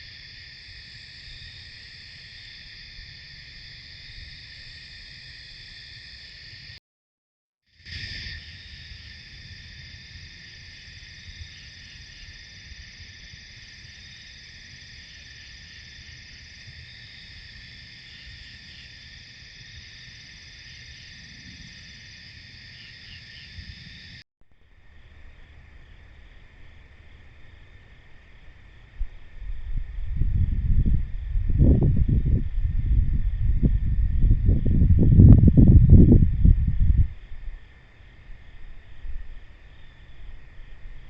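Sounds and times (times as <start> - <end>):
crickets and insects trilling: 0.0 - 6.8, 7.7 - 41.0.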